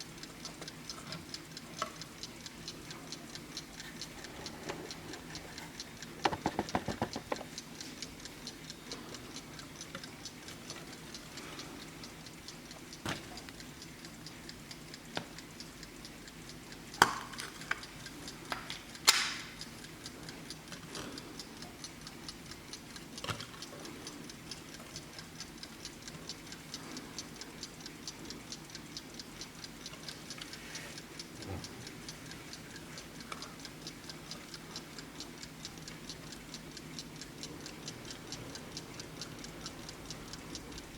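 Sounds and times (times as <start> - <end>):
alarm clock ticking: 0.0 - 40.9.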